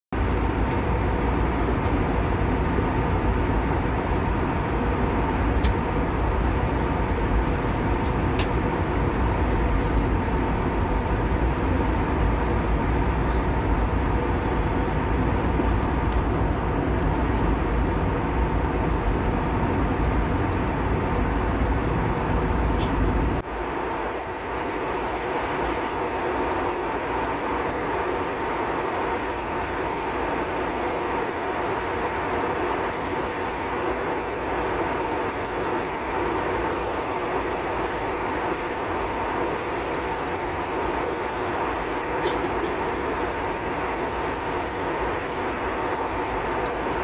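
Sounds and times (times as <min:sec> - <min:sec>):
engine and airflow rush: 0:00.1 - 0:47.0
faint steady hum: 0:00.2 - 0:47.0.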